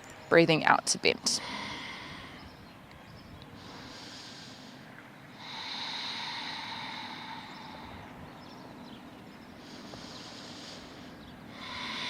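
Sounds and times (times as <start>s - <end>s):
person breathing slowly: 1.3s - 2.8s, 3.4s - 12.0s.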